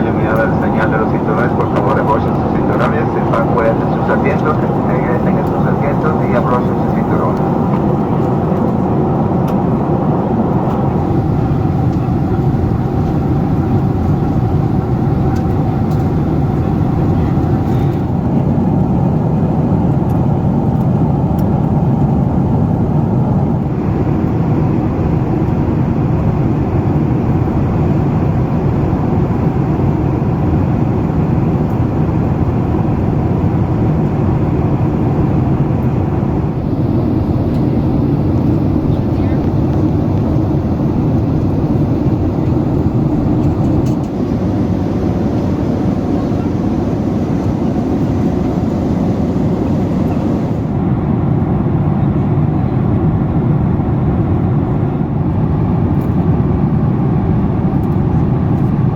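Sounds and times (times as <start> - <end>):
jet engines in cabin: 0.0 - 58.9.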